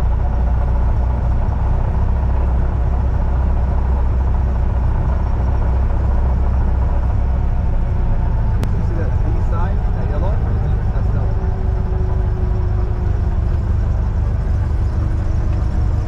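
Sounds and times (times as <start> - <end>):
airplane engine and propeller droning: 0.0 - 16.0.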